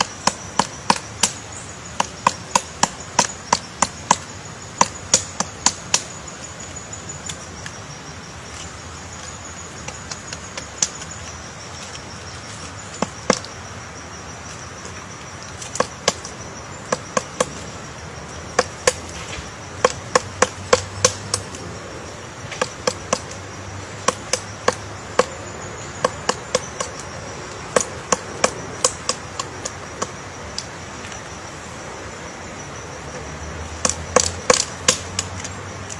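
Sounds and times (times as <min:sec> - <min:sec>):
woodpecker pecking wood: 0:00.0 - 0:07.8, 0:08.6 - 0:13.7, 0:14.7 - 0:31.3, 0:33.1 - 0:35.9.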